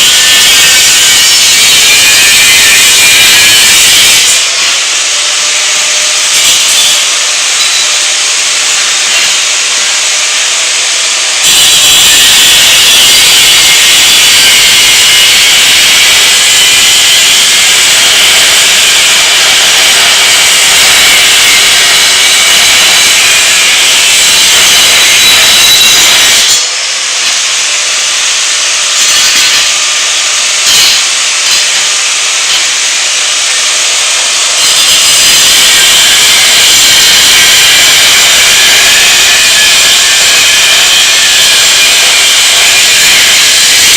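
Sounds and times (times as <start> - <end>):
power tool grinding steel: 0.0 - 43.9.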